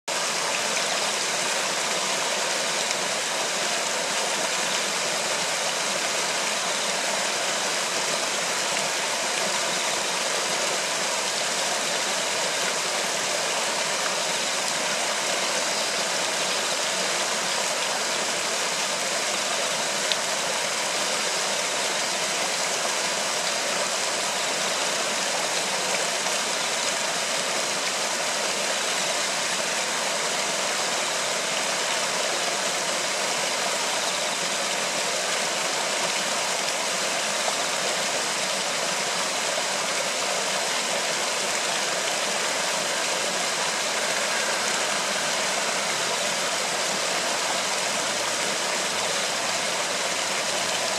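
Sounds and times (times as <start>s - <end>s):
river water rushing: 0.1s - 50.9s.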